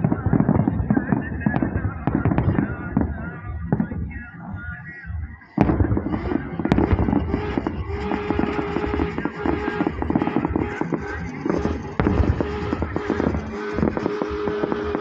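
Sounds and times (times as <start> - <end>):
firecrackers crackling and popping: 0.0 - 4.3, 5.6 - 15.0
steady held tone: 0.0 - 15.0.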